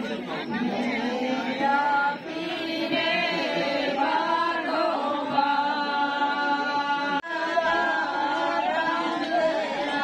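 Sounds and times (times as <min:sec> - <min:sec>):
women singing unaccompanied: 0:00.6 - 0:10.0.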